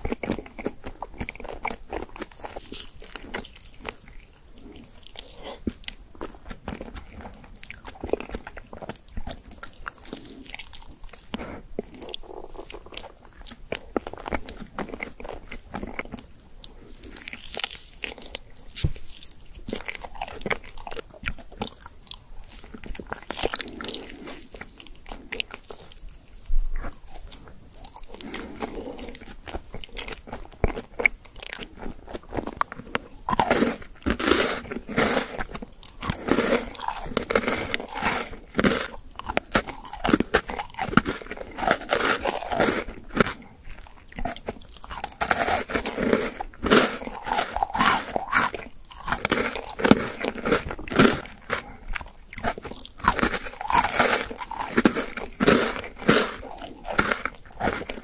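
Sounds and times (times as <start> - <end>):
chewing with wet mouth sounds: 0.0 - 58.0
crisp crunching of biscuit: 0.0 - 58.0.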